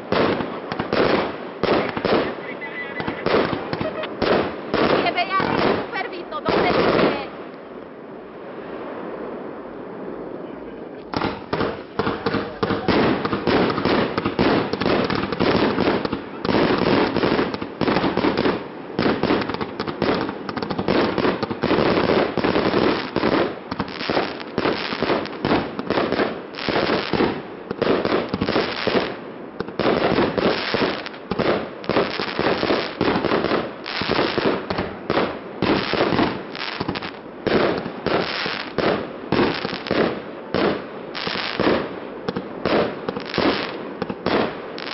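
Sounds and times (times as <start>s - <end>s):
fireworks bangs and crackling: 0.0s - 44.9s.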